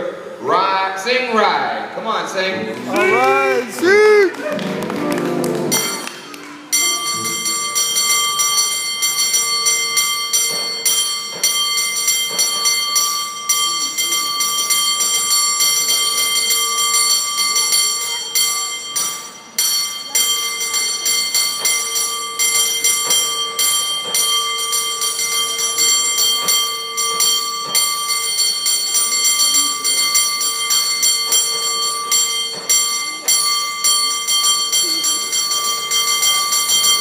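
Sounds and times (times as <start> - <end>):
bell rung by hand: 5.7 - 37.0.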